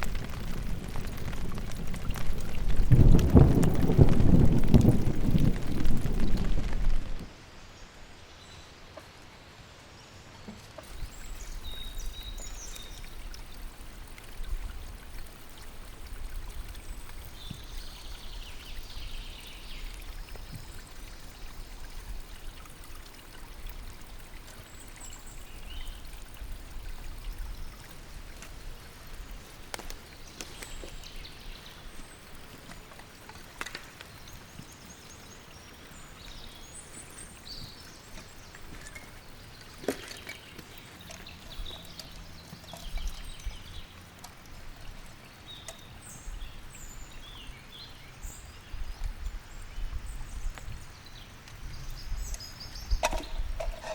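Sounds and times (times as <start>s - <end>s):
river flowing: 0.0s - 48.6s.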